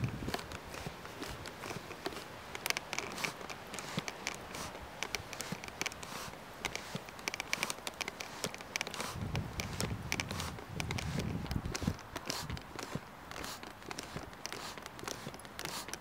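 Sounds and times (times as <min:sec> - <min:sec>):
forge fire crackling and popping: 0:00.0 - 0:16.0.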